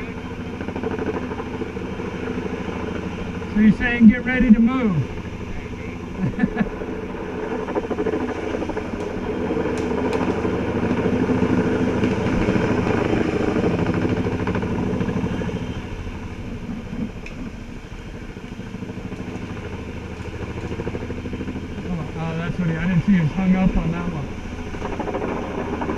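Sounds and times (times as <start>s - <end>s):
helicopter rotor chopping: 0.0s - 25.9s.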